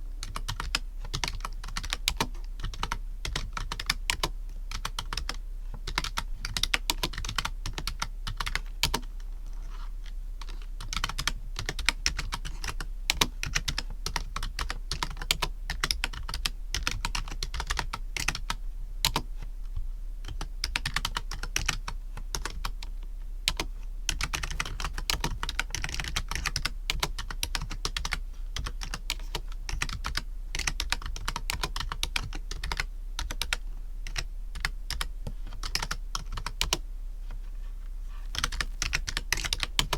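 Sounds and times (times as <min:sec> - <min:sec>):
steady low hum: 0:00.0 - 0:39.9
computer keyboard typing: 0:00.2 - 0:09.1, 0:10.4 - 0:19.3, 0:20.2 - 0:22.8, 0:23.5 - 0:36.8, 0:38.3 - 0:39.9.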